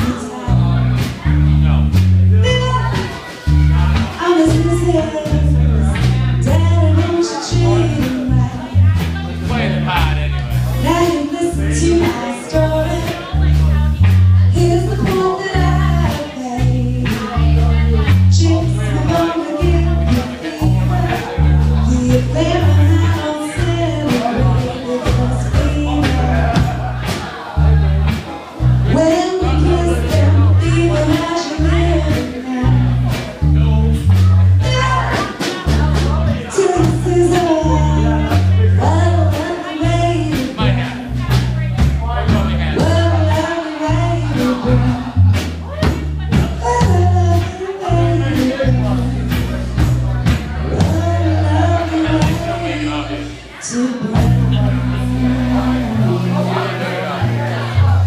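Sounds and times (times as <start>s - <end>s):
woman singing: 0.0s - 0.7s, 2.4s - 9.6s, 10.8s - 27.4s, 28.9s - 33.3s, 34.1s - 41.9s, 42.7s - 57.2s
bass guitar notes: 0.0s - 58.0s
live rock band playing: 0.0s - 58.0s
steady drums: 0.0s - 58.0s.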